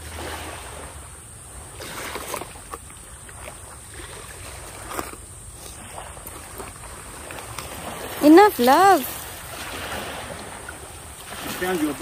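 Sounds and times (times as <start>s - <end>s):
waves washing: 0.0s - 12.0s.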